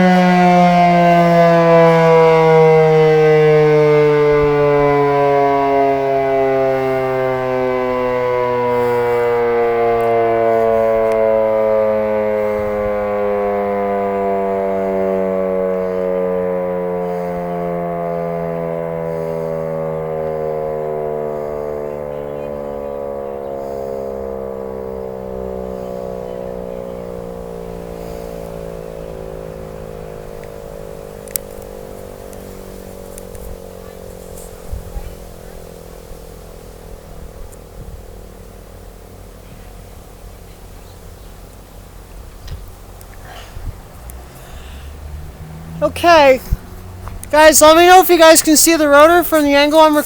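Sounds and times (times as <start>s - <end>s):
siren winding down: 0.0s - 43.0s, 43.7s - 50.0s.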